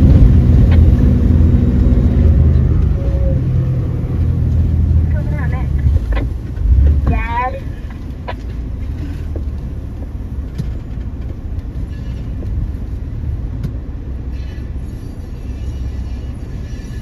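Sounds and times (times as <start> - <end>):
suv engine rumble from cabin: 0.0 - 17.0.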